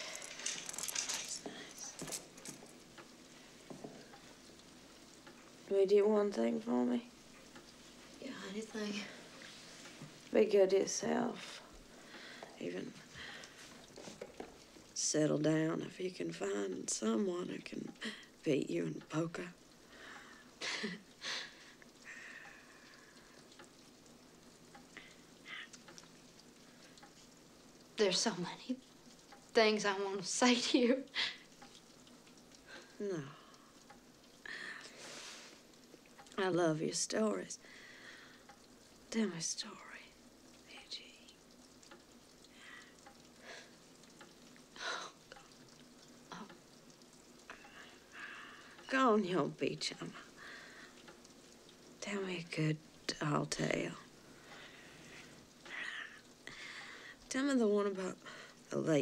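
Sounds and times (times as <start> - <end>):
faint crackling hiss: 0.0 - 59.0.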